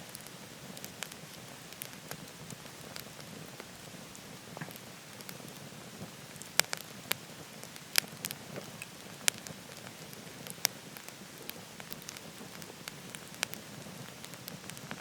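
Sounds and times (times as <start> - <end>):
fire sharp pops: 0.0 - 15.0
steady rushing hiss: 0.0 - 15.0
wood fire crackling: 0.0 - 15.0.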